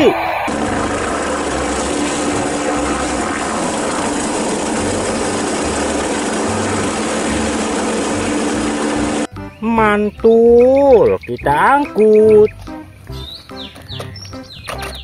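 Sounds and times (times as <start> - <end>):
helicopter hovering: 0.0 - 12.5.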